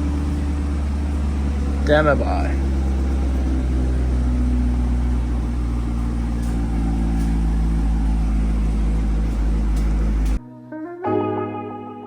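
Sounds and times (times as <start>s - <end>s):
car engine running: 0.0s - 10.4s.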